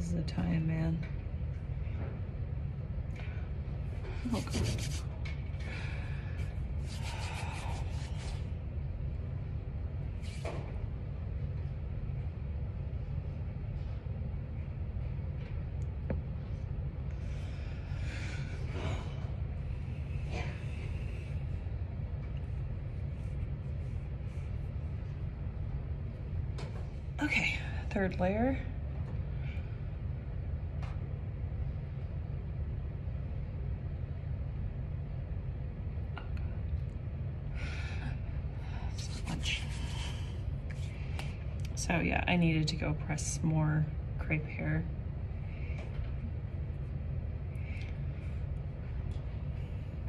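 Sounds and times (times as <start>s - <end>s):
low room noise rumble: 0.0s - 50.0s.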